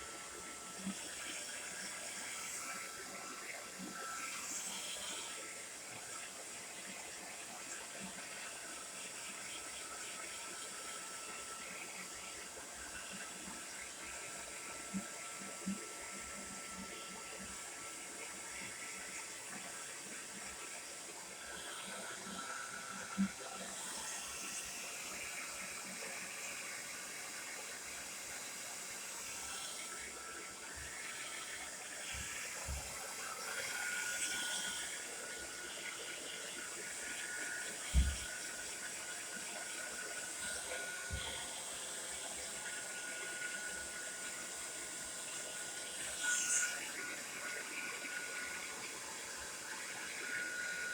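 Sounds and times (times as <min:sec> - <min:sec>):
hair dryer running: 0:00.0 - 0:50.9.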